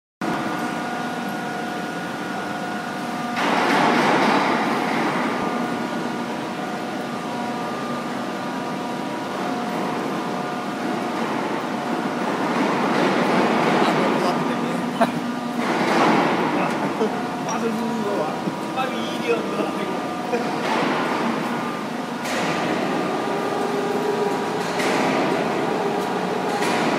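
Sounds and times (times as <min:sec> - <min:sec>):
lathe humming and whining: 0:00.2 - 0:26.9.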